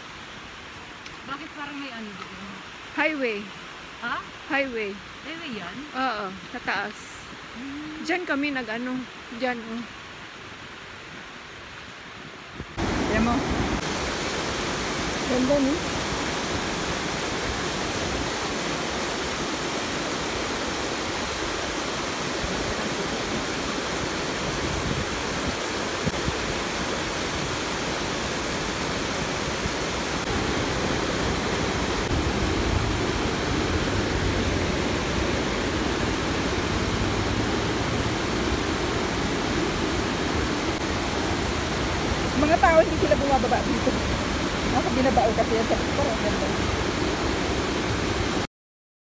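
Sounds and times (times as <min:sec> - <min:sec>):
river water rushing: 0:00.0 - 0:48.5.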